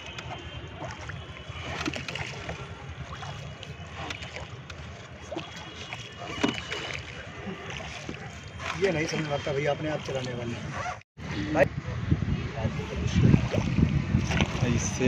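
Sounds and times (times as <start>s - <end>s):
oar strokes splashing and knocking: 0.0s - 10.6s, 13.3s - 15.0s.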